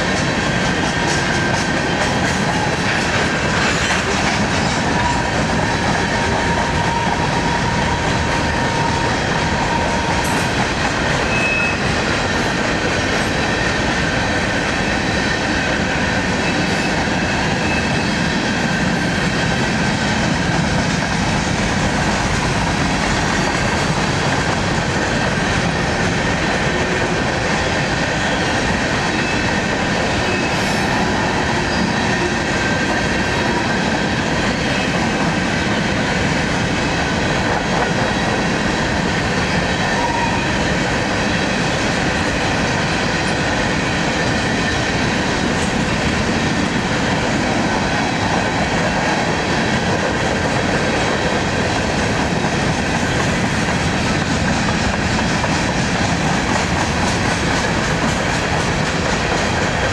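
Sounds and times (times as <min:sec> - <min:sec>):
steel train wheels on rails: 0:00.0 - 0:59.9.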